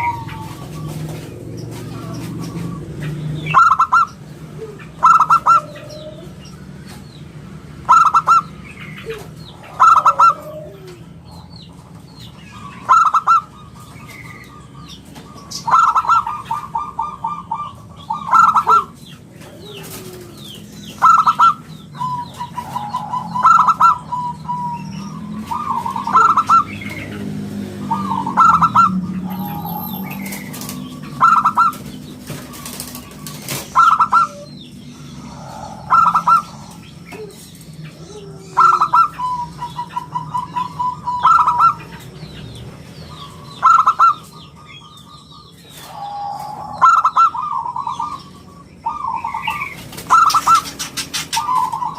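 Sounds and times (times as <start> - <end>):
dove cooing: 0.0 - 7.1, 7.8 - 51.9
small birds chirping: 0.0 - 51.9.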